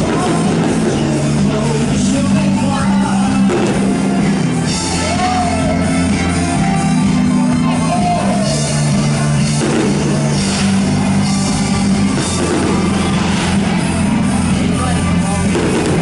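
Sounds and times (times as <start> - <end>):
loud rock music with singer: 0.0 - 16.0.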